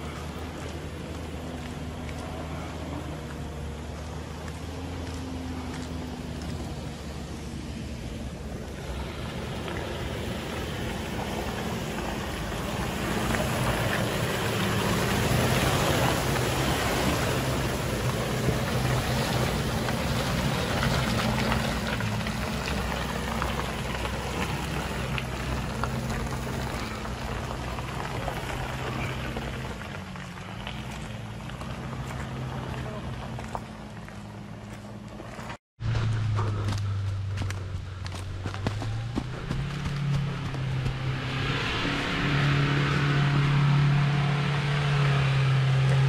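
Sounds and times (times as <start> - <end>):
tyres churning and spattering mud: 0.0 - 41.3
truck engine pulling through mud: 0.0 - 46.0.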